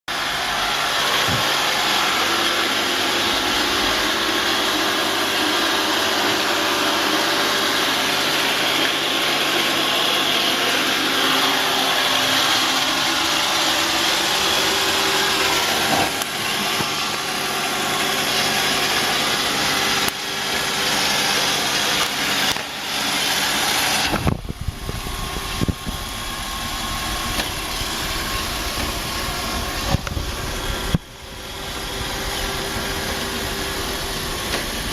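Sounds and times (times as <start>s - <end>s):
robot vacuum running: 0.1s - 34.9s.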